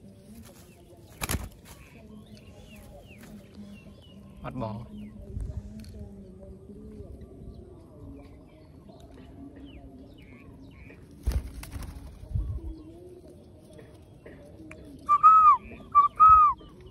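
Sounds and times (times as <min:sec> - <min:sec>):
birds calling: 0:00.0 - 0:05.3, 0:08.0 - 0:16.9.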